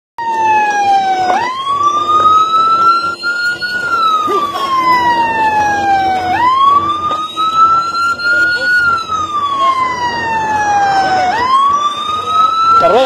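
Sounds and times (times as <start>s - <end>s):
emergency siren wailing: 0.2s - 13.0s.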